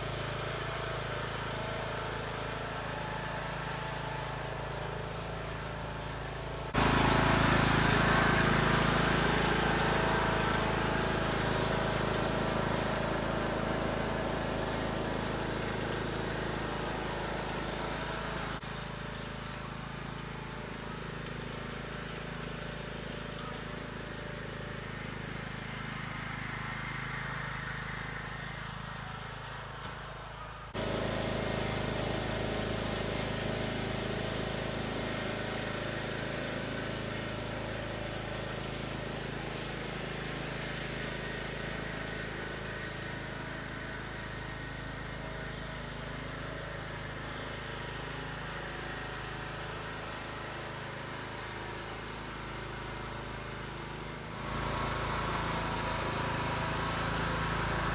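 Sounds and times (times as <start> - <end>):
riding mower engine running: 0.0 - 57.9.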